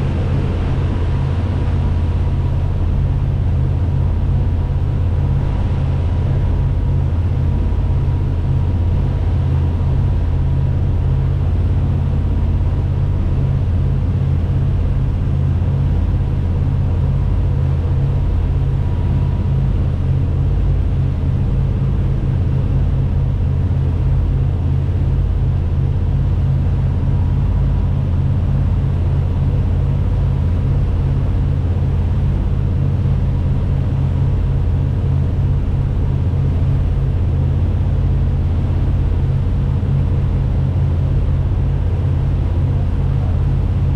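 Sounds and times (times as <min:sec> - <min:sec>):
boat engine droning: 0:00.0 - 0:43.9.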